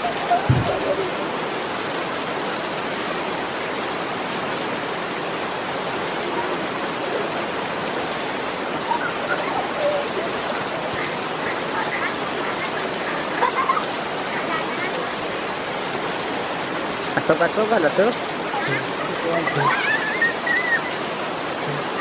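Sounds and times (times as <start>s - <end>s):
faint voices: 0.0s - 1.6s, 5.9s - 22.0s
heavy rain pouring: 0.0s - 22.0s.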